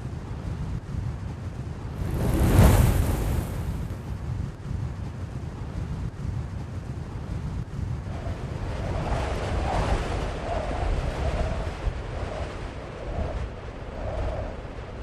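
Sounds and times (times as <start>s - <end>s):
wind with low rumble: 0.0s - 15.0s.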